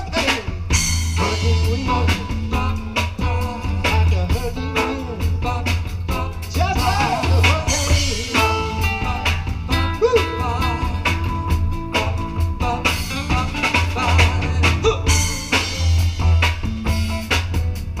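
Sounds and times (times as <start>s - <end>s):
drum kit steady beat: 0.0s - 18.0s
live band playing: 0.0s - 18.0s.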